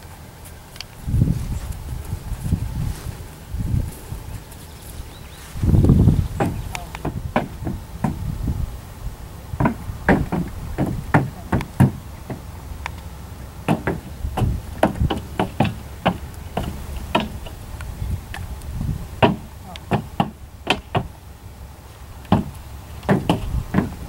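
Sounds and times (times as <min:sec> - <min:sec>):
hooves on wooden boards: 0:00.0 - 0:08.7, 0:09.4 - 0:24.0.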